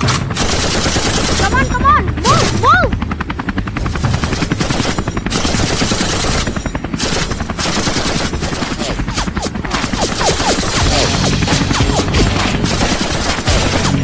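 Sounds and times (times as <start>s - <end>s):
machine-gun shots: 0.0s - 1.6s, 3.9s - 14.0s.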